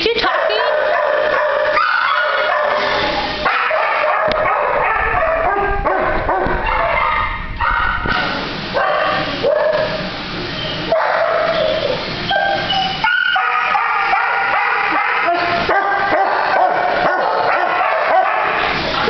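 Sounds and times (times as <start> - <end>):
many dogs barking and whining: 0.1 - 19.0.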